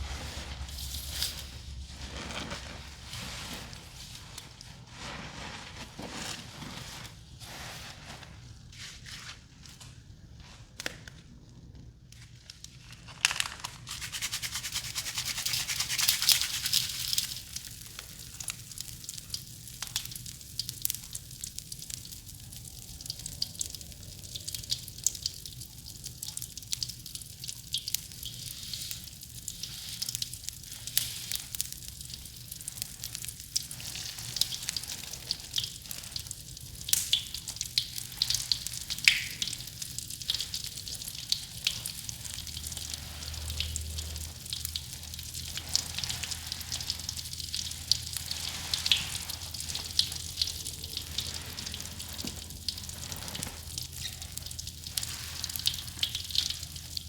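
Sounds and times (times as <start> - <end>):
bath crackles popping: 0.0 - 8.8, 11.7 - 57.0.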